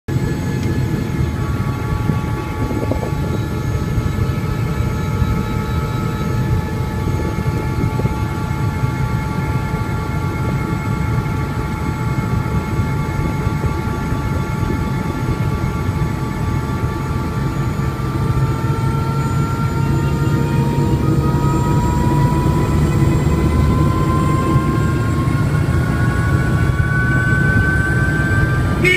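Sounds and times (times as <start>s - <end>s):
helicopter rotor thrum: 0.1s - 28.9s
high turbine whine: 0.1s - 28.9s.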